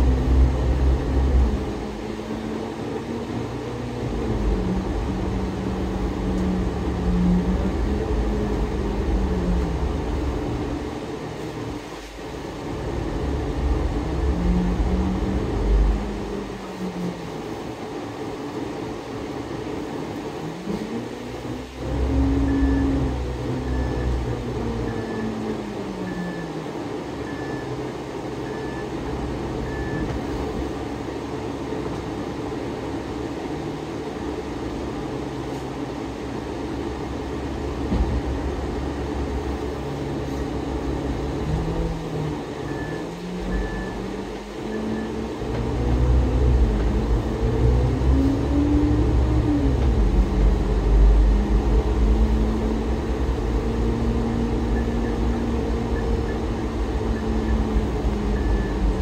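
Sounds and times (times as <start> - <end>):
bus diesel engine whine: 0.0 - 59.0.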